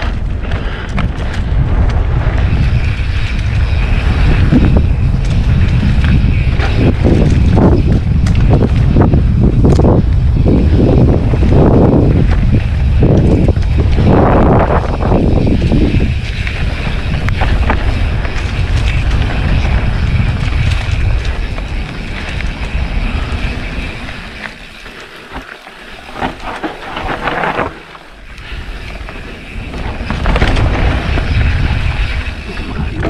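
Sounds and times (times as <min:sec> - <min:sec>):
wind on microphone: 0:00.0 - 0:25.4, 0:26.0 - 0:33.0
bike knocking and rattling: 0:00.0 - 0:33.0
bike tyres on dirt: 0:00.0 - 0:33.0.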